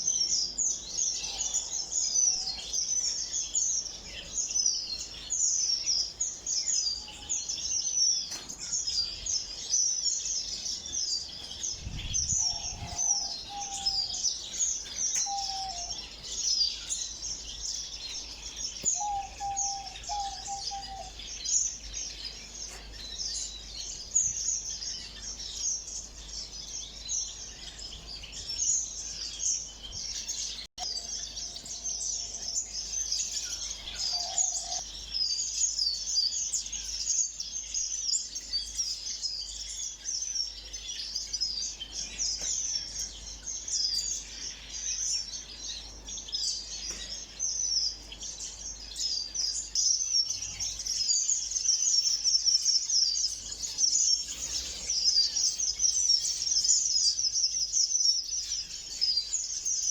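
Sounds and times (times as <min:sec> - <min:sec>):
small birds twittering: 0:00.0 - 0:59.9.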